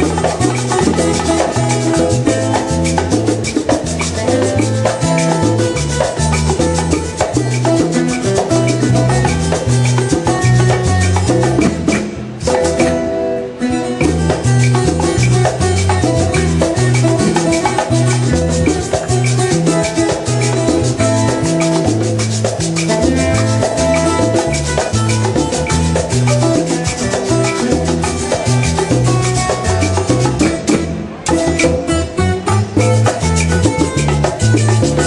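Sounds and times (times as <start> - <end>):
live salsa band playing: 0.0 - 35.0
repeating bass line: 0.0 - 35.0.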